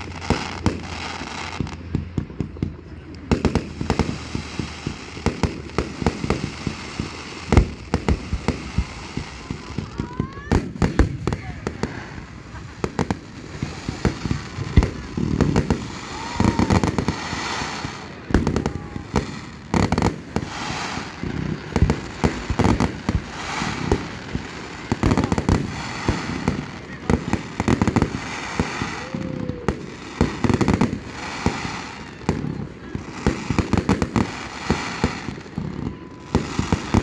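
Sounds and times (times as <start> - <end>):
fireworks bangs and booms: 0.0 - 37.0
fireworks crackling: 0.0 - 37.0.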